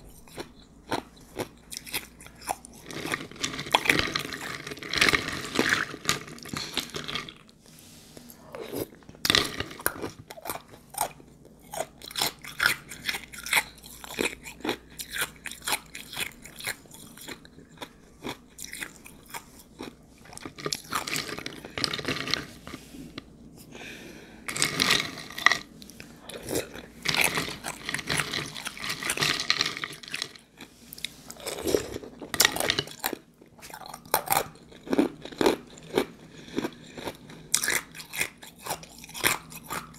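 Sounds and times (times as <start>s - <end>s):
crunching and chewing ice: 0.0s - 7.6s, 8.6s - 22.9s, 24.5s - 39.9s.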